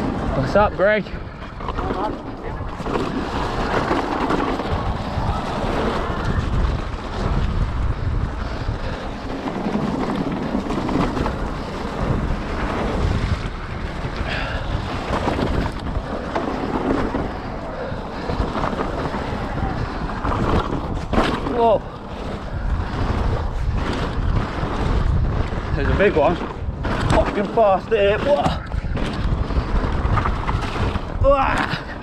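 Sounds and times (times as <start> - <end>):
bike tyres rumbling and rattling: 0.0 - 32.0
wind rushing over microphone: 0.0 - 32.0.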